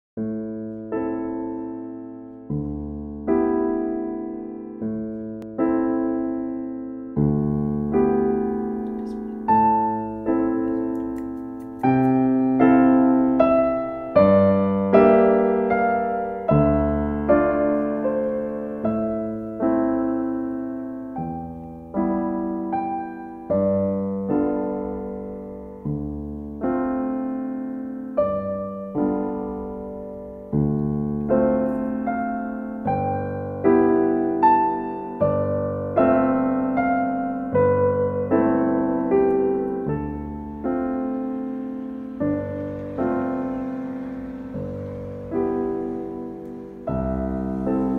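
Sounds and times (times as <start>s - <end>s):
gentle piano music: 0.2s - 47.9s.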